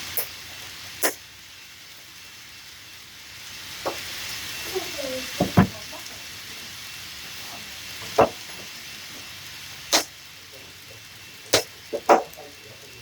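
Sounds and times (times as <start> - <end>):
model train rolling hiss: 0.0 - 13.0.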